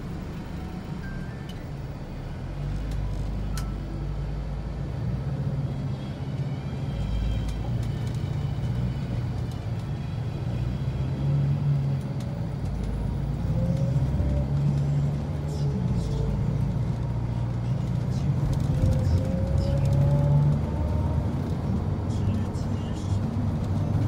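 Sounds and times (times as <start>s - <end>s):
diesel engine hum from inside bus: 0.0s - 24.0s.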